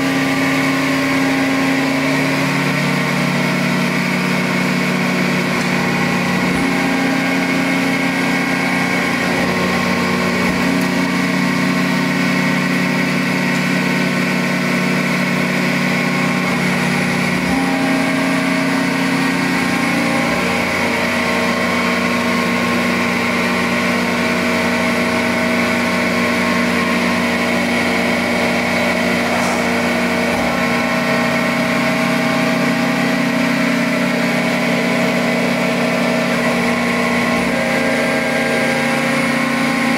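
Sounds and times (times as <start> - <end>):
hydraulic press motor humming: 0.0 - 39.9.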